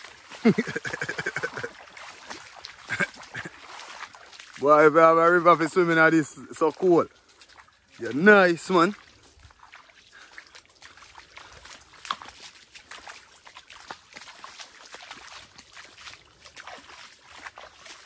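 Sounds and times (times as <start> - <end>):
river water trickling and bubbling: 0.0 - 18.0.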